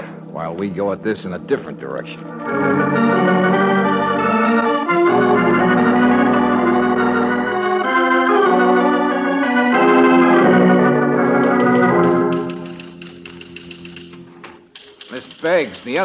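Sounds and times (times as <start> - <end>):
organ chords: 0.0 - 16.0.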